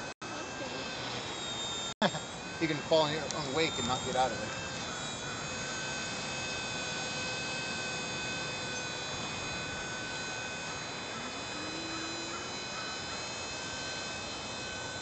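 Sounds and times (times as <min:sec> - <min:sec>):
remote-control helicopter whining: 0:00.0 - 0:15.0.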